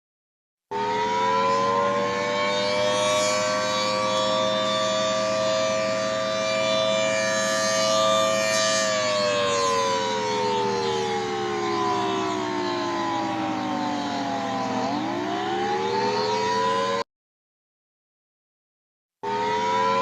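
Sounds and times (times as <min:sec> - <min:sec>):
dual-tone warning siren: 0:00.7 - 0:17.1, 0:19.2 - 0:20.0.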